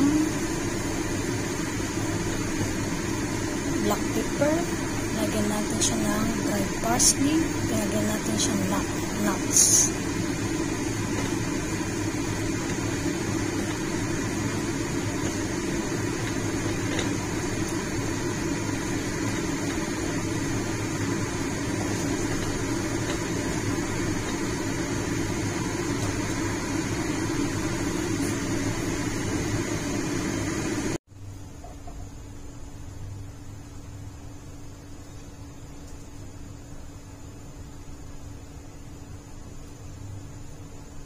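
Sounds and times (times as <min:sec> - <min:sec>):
kitchen fan whirring: 0:00.0 - 0:41.0.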